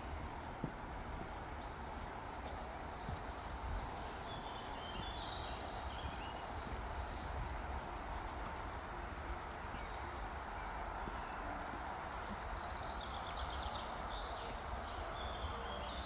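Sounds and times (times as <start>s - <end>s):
background noise: 0.0s - 16.0s.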